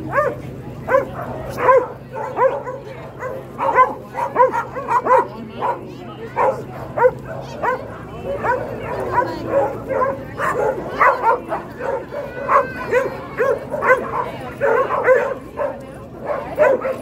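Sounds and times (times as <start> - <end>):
dogs barking and yelping: 0.0 - 17.0.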